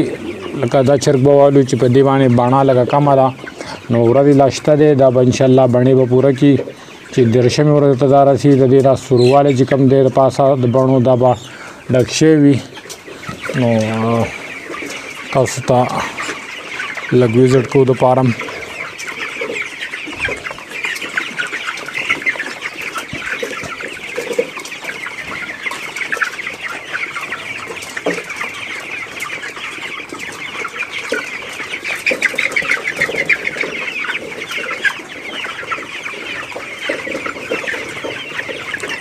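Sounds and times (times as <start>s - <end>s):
chickens peeping and clucking: 0.0s - 39.0s.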